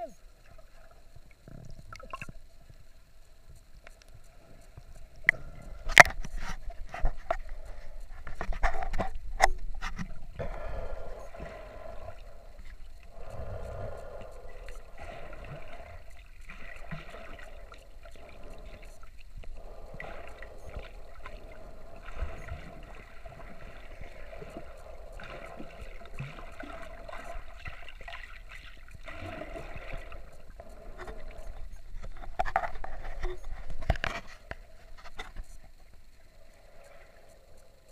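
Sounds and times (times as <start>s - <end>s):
steady hum: 0.0s - 37.9s
low underwater rumble: 0.2s - 37.9s.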